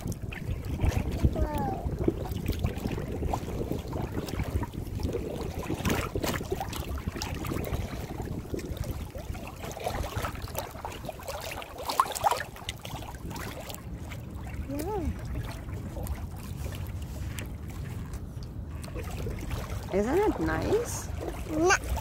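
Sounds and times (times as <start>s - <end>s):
paddle splashing water: 0.0s - 22.0s
wind rumble: 0.0s - 22.0s.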